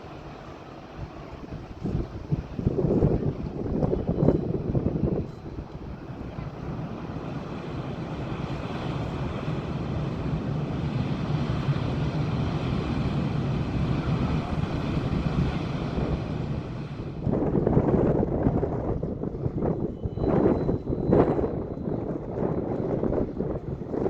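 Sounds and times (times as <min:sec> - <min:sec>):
ship engines rumbling: 0:00.0 - 0:24.0
wind on microphone: 0:00.9 - 0:24.0.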